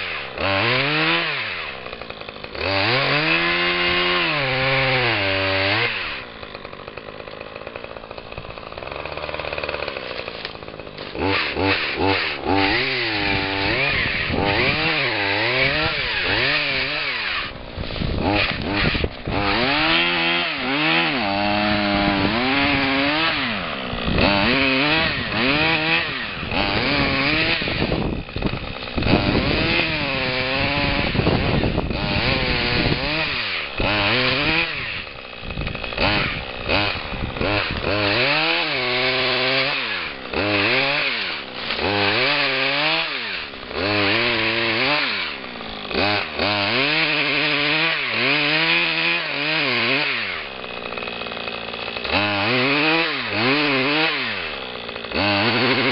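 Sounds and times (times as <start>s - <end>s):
saw engine revving: 0.0s - 55.9s.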